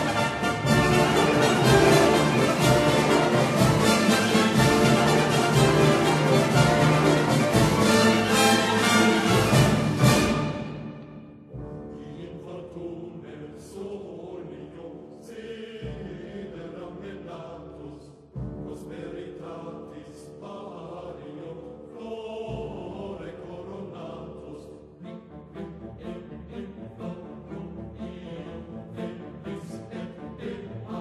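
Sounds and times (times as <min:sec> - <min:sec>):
orchestral music with choir: 0:00.0 - 0:31.0.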